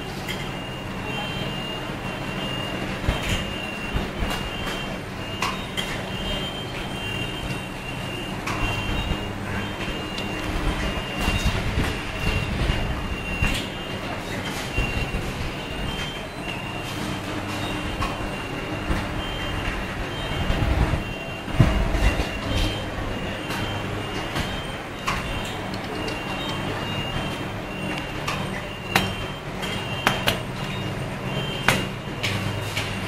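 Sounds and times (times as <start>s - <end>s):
workshop machinery hum: 0.0s - 33.0s.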